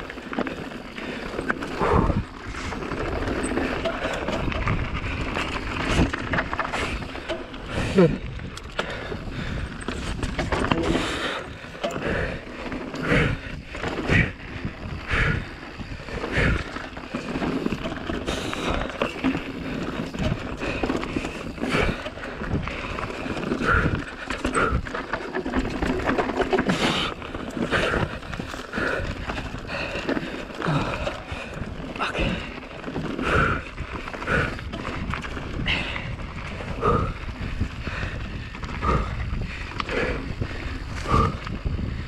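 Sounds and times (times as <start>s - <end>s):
bike knocking and clattering: 0.0s - 42.0s
bike tyres rolling rumble: 0.0s - 42.0s.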